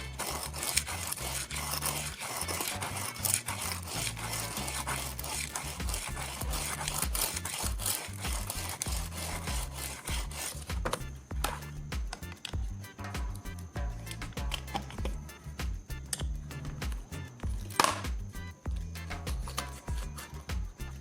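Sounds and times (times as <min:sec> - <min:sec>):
knife scraping on sharpener: 0:00.0 - 0:16.2, 0:18.9 - 0:21.0
background music: 0:00.0 - 0:21.0.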